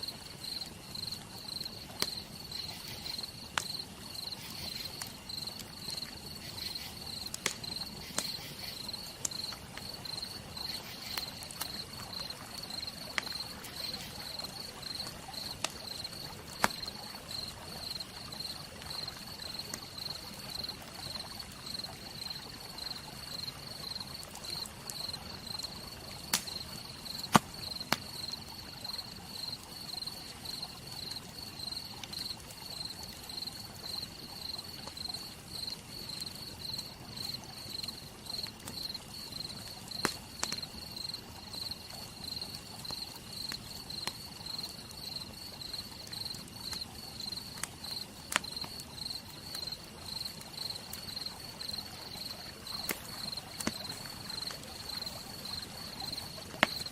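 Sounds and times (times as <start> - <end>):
campfire crackling and popping: 0.0 - 56.9
crickets chirping: 0.0 - 56.9.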